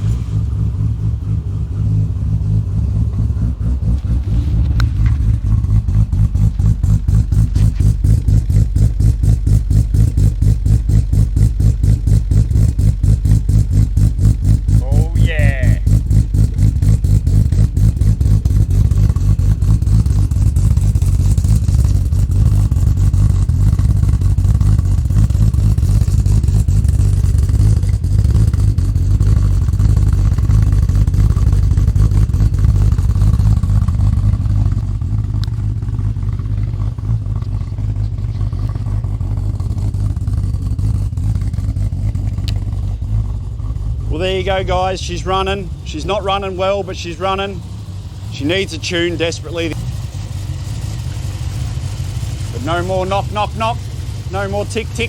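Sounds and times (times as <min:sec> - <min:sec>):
engine idling roughly: 0:00.0 - 0:55.0.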